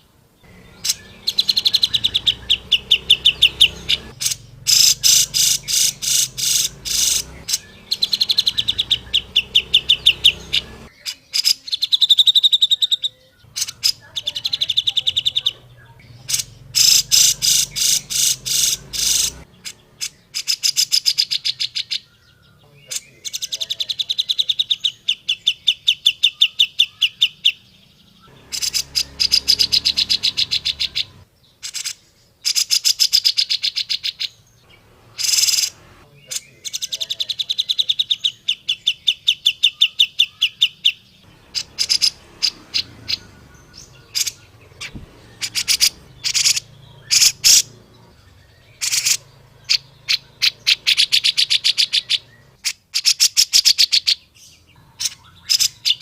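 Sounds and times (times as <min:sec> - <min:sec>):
bulbul calling: 0:00.0 - 0:27.6, 0:28.2 - 0:56.0.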